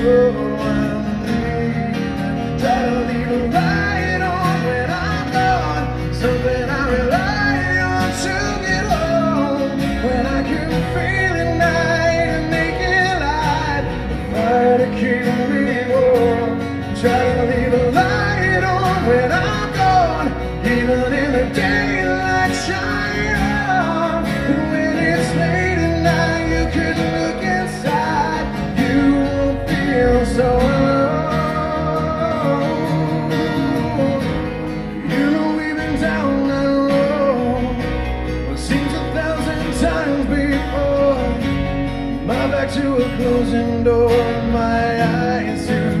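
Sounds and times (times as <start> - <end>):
electric bass: 0.0 - 46.0
man singing lead vocal: 0.0 - 46.0
strummed acoustic guitar: 0.0 - 46.0.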